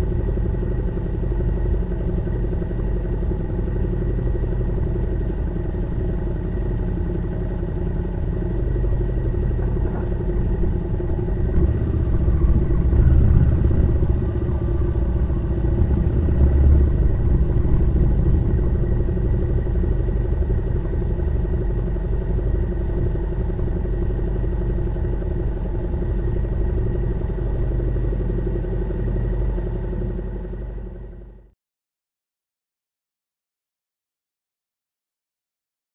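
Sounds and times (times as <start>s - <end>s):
motorcycle engine running: 0.0s - 31.5s.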